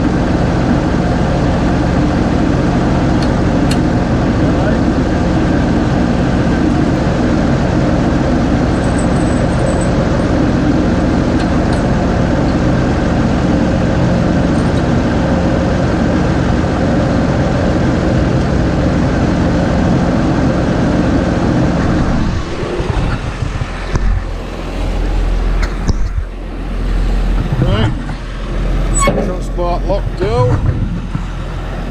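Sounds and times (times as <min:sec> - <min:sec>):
low rumble: 0:00.0 - 0:31.9
tractor engine running: 0:00.0 - 0:31.9.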